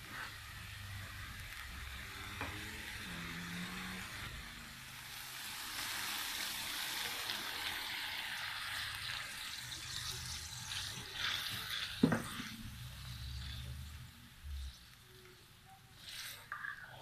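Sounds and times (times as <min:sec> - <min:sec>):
water sizzling in hot oil: 0:00.0 - 0:17.0.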